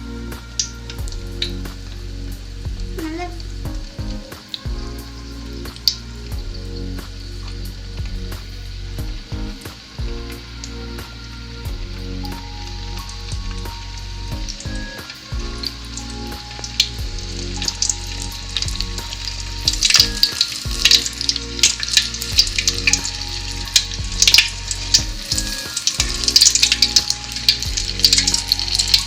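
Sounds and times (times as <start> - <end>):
chicken deep-frying in oil: 0.0 - 29.0.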